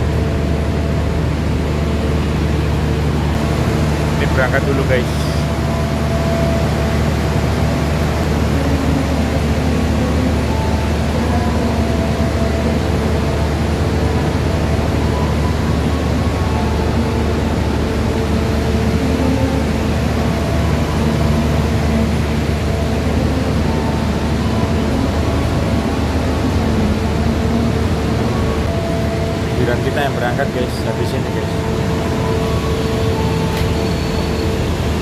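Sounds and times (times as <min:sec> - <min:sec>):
steady hums: 0:00.0 - 0:35.0
train droning: 0:00.0 - 0:35.0.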